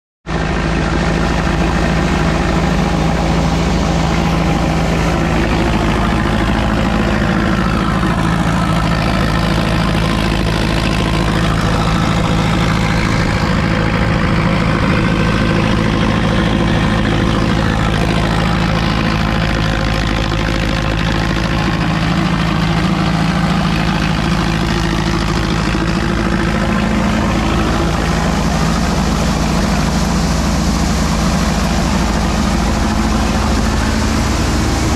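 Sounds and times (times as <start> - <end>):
thresher machine hum: 0.3 - 34.9.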